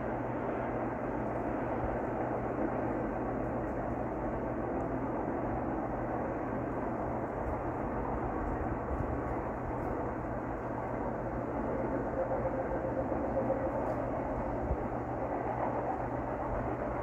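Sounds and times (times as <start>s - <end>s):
distant train wheels rumbling on rail: 0.0s - 17.0s.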